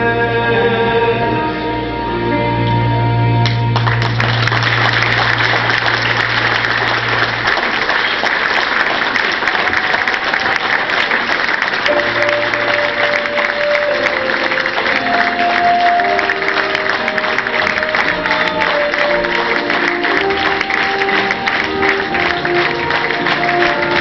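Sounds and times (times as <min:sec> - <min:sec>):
waltz music: 0:00.0 - 0:08.1, 0:11.0 - 0:24.0
audience applauding: 0:03.4 - 0:24.0.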